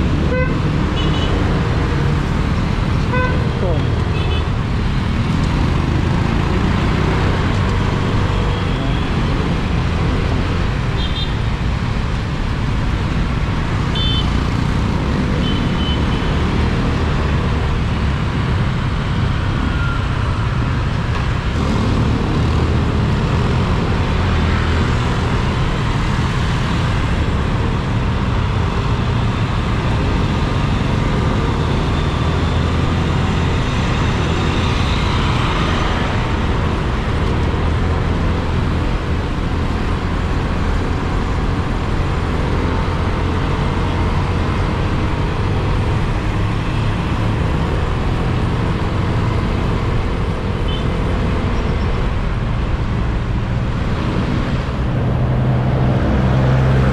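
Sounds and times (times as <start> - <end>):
road noise: 0.0 - 56.9.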